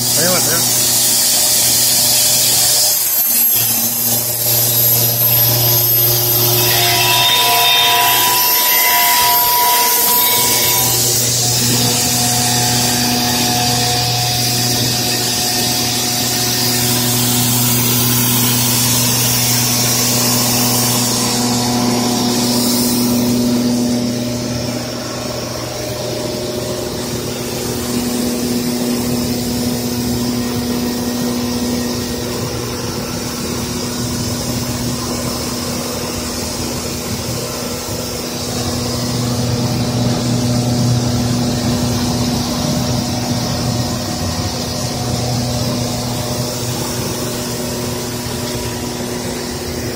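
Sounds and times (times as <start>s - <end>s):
machine motor hum with hiss: 0.0s - 49.9s.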